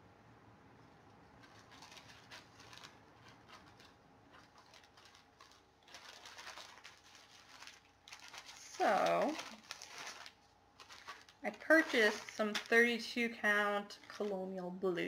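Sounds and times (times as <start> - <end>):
faint rustling and handling: 0.8 - 15.0.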